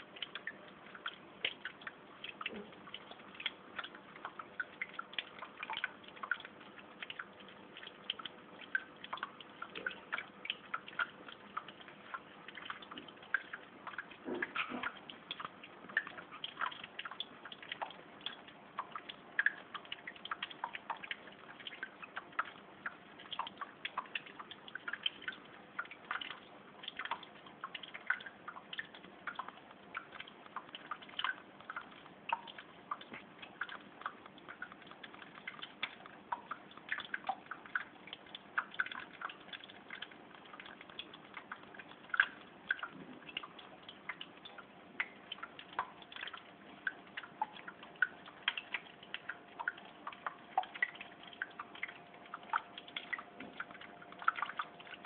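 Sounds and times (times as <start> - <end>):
faint steady hum: 0.0 - 55.0
water drops plinking into water: 0.0 - 55.0.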